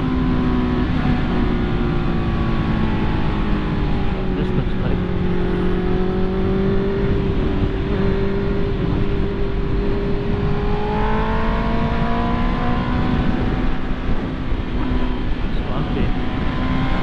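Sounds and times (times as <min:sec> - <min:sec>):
motorcycle engine climbing: 0:00.0 - 0:17.0.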